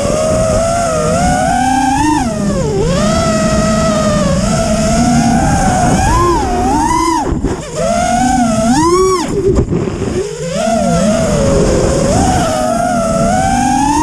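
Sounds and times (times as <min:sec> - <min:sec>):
drone motors whining: 0:00.0 - 0:14.0
rushing air noise: 0:02.2 - 0:13.6.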